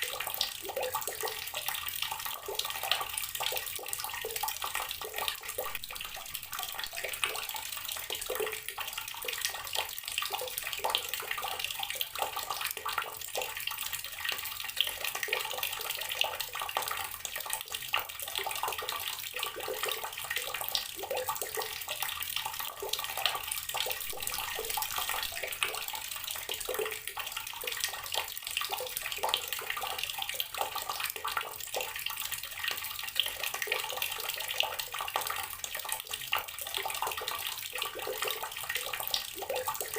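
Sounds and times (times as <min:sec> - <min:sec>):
water running from tap and splashing: 0:00.0 - 0:39.9.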